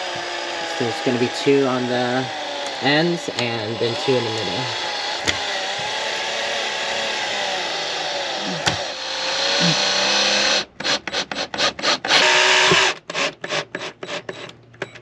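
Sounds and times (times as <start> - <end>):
cordless drill driving screw: 0.0 - 14.6.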